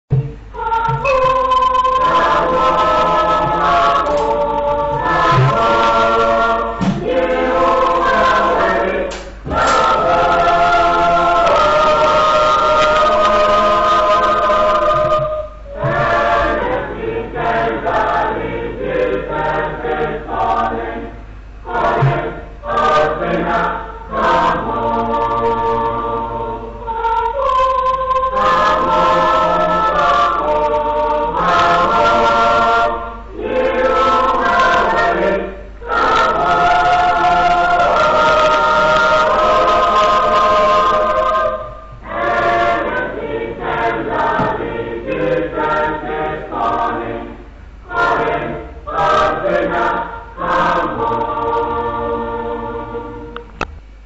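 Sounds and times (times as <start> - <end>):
choir singing a hymn: 0.1 - 53.6.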